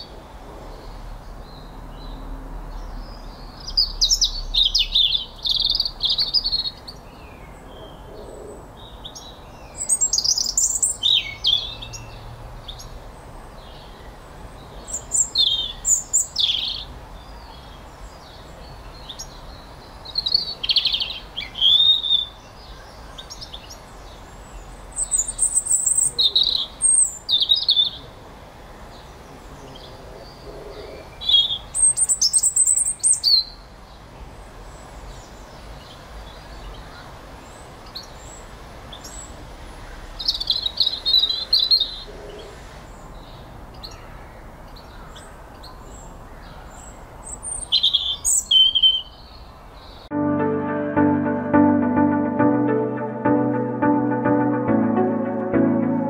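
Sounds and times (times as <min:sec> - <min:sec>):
songbird singing: 0:00.0 - 0:34.1, 0:40.2 - 0:56.0
faint steady background noise: 0:00.0 - 0:56.0.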